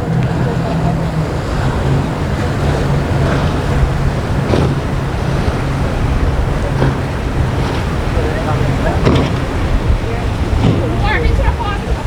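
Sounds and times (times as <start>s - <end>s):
motorboat engines droning: 0.0s - 12.0s
waves: 0.0s - 12.0s
wind buffeting microphone: 0.0s - 12.0s.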